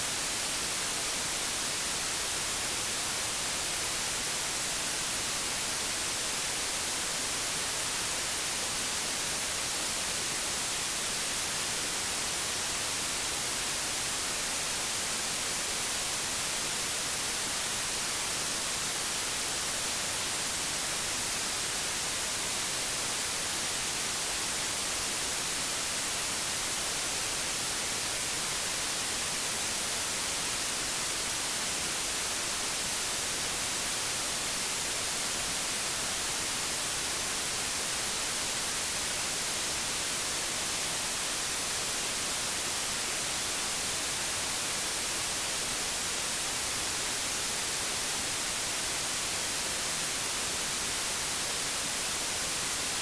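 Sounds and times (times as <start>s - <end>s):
television static hiss: 0.0s - 53.0s.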